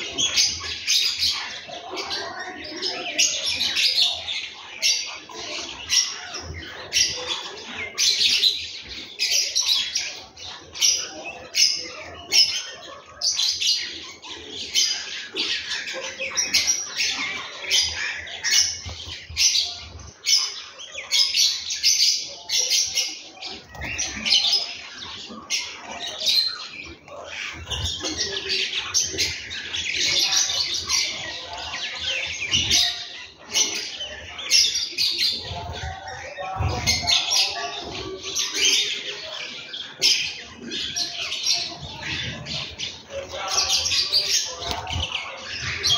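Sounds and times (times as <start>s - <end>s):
sparrows chirping: 0.0s - 45.9s.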